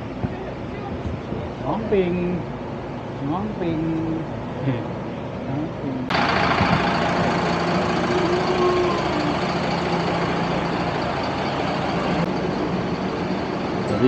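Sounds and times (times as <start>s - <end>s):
diesel bus engine idling: 1.6s - 14.0s.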